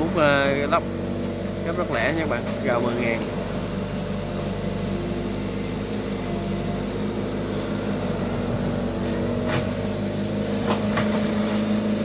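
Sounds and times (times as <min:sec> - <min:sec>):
excavator diesel engine hum: 0:00.0 - 0:12.0.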